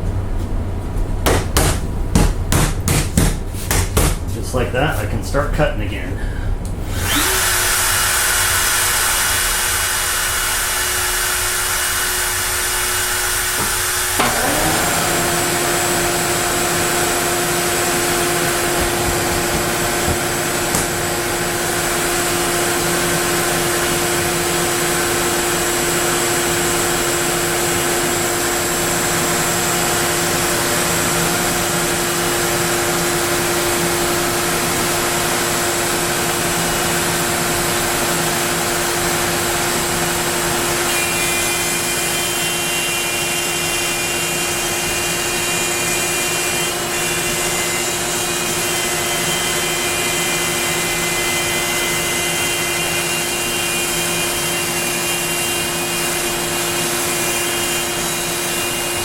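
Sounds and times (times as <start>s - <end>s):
dust extractor hum: 0.0s - 59.0s
cnc router cutting wood: 6.9s - 59.0s.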